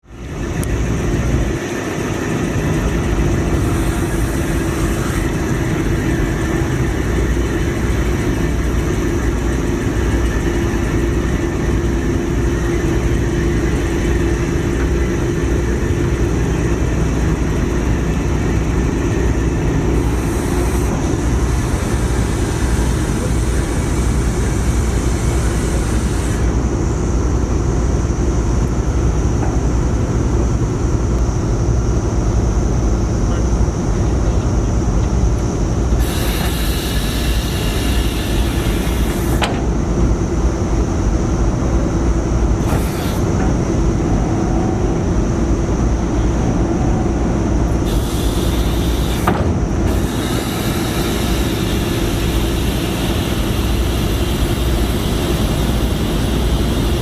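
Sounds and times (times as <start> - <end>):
ship engines rumbling: 0.0 - 57.0.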